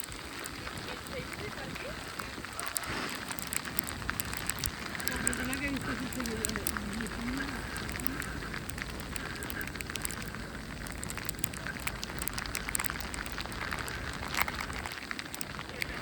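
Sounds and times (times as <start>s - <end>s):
small crackling ticks: 0.0s - 16.0s
snowstorm rumble and hiss: 0.0s - 16.0s.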